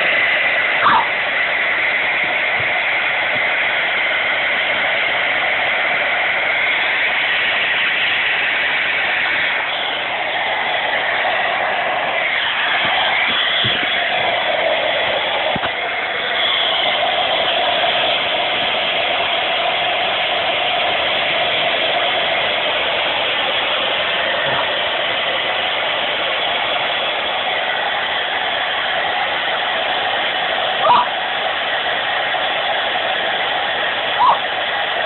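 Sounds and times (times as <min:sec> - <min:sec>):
hair dryer blowing: 0:00.0 - 0:35.0.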